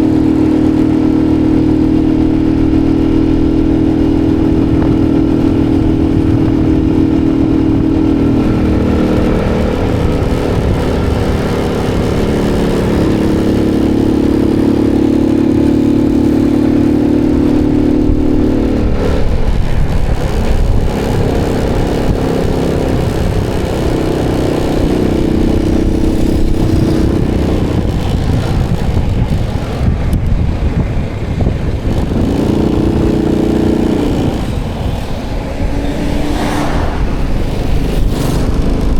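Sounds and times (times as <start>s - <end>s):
motorbike engine revving: 0.0s - 38.9s
wind rumble on microphone: 0.0s - 38.9s.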